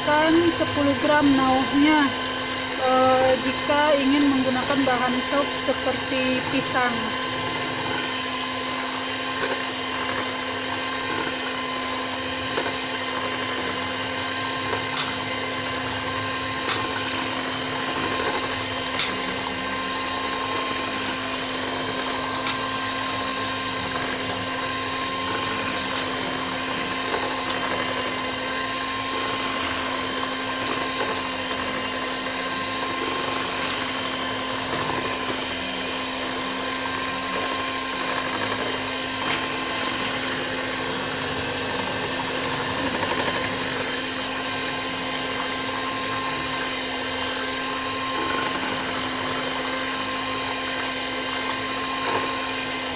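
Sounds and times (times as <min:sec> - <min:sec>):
stick blender motor hum: 0:00.0 - 0:52.9.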